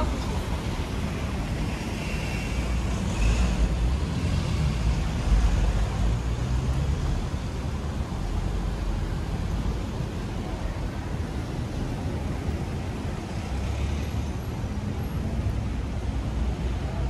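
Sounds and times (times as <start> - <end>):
low rumble of passing cars: 0.0 - 17.0.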